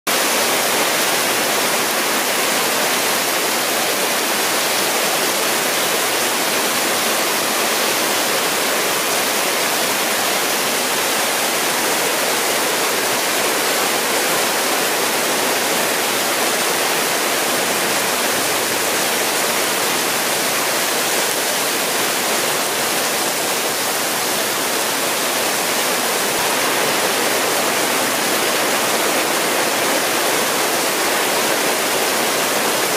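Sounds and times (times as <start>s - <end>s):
heavy rain pouring: 0.1s - 32.9s
water streaming off roofs: 0.1s - 32.9s.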